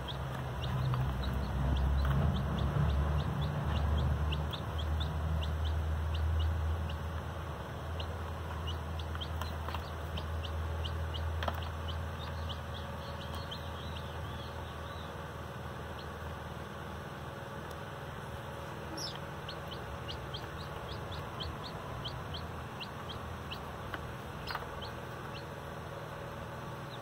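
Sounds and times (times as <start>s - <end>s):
baby chicks peeping: 0.0s - 27.0s
low steady rumble: 0.0s - 27.0s.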